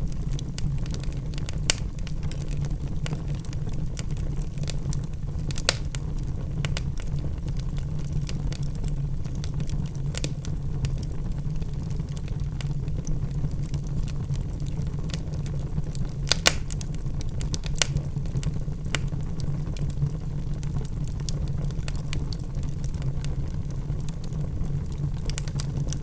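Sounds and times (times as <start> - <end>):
logs crackling and popping: 0.0 - 26.0
low rumble of fire: 0.0 - 26.0.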